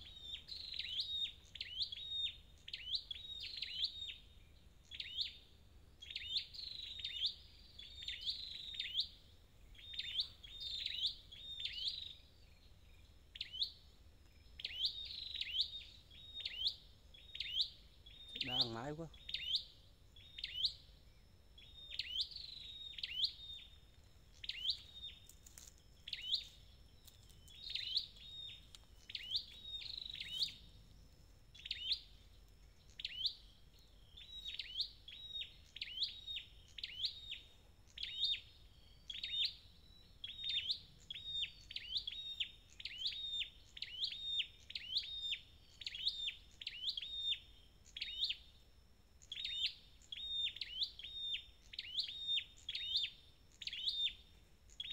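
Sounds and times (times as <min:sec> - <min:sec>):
bird high chip calls: 0:06.0 - 0:30.8, 0:31.5 - 0:48.6, 0:49.2 - 0:54.9.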